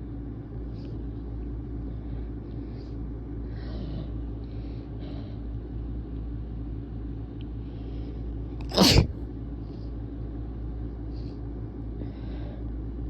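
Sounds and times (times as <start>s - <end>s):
constant hum: 0.0s - 13.0s
low background rumble: 0.0s - 13.0s.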